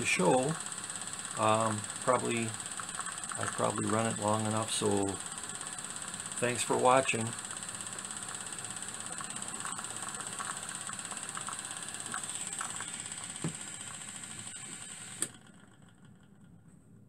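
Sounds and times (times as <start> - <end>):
torch hissing: 0.0 - 15.4
model steam engine running: 0.0 - 16.5.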